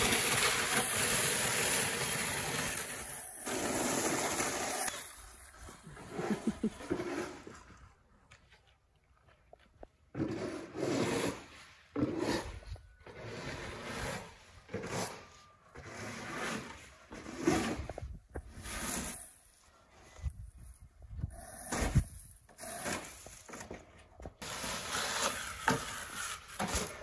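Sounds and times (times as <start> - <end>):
snow shovel scraping concrete: 0.0 - 8.0, 10.1 - 27.0.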